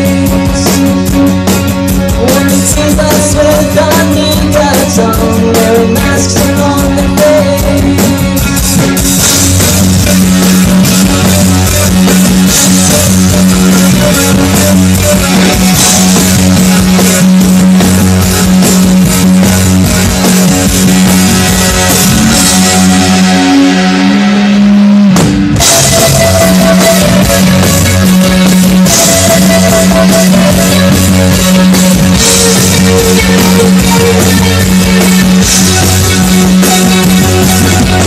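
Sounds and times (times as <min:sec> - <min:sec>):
drum kit: 0:00.0 - 0:38.0
electric guitars: 0:00.0 - 0:38.0.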